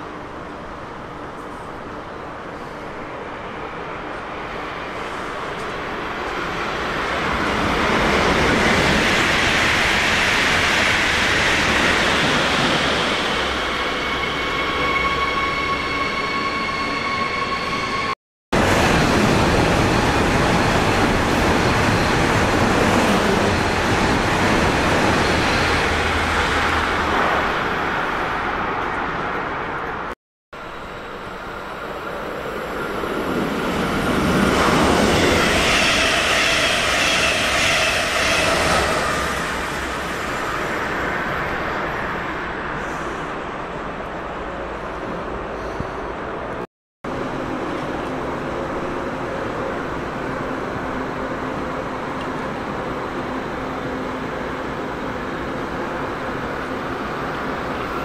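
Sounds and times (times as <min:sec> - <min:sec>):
electric trains rushing past: 0:00.0 - 0:58.0.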